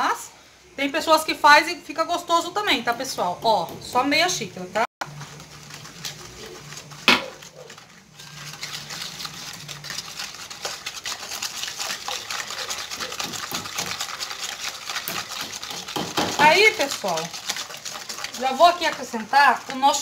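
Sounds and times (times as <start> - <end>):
whisk clicking and scraping in bowl: 2.5 - 20.0.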